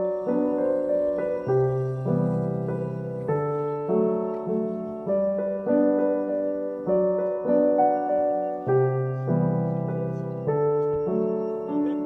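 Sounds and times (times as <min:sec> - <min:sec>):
slow gentle piano music: 0:00.0 - 0:12.0.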